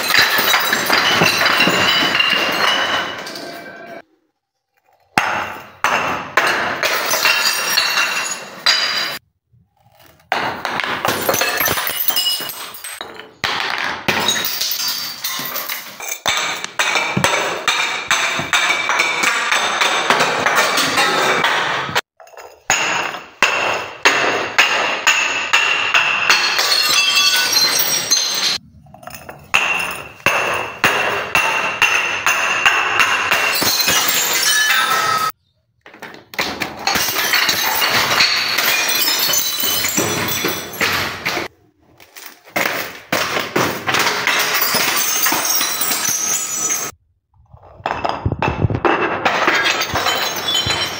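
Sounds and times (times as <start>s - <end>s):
glass bottles clinking down stone stairs: 0.0s - 4.1s, 4.7s - 9.2s, 9.8s - 50.9s.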